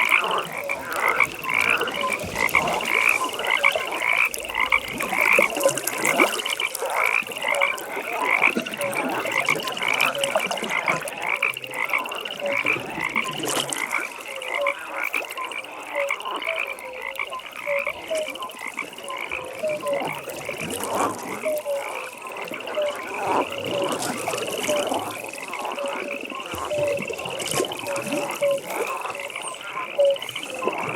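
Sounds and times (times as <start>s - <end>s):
frogs calling: 0.0s - 30.9s.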